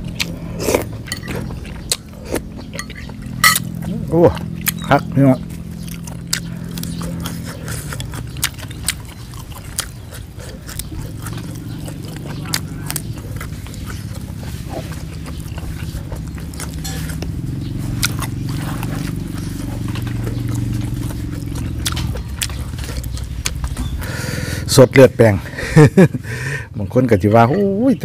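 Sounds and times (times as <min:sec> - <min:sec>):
person chewing and crunching: 0:00.0 - 0:26.6
low steady hum: 0:00.0 - 0:28.0.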